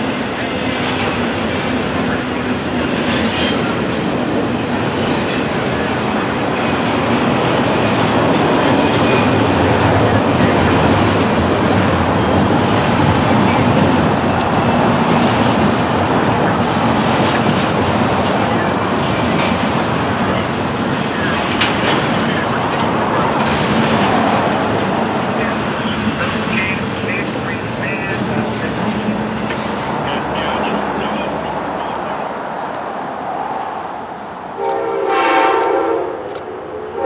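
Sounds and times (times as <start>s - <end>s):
steel wheels rolling on rail: 0.0s - 37.0s.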